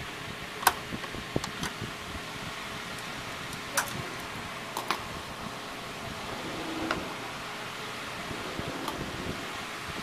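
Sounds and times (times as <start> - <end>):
steady fan-like hiss: 0.0 - 10.0.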